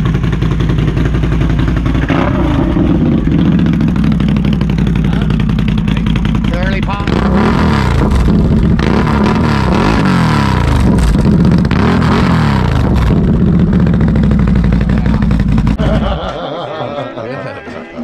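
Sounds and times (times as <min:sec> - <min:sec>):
atv engine revving: 0:00.0 - 0:16.4.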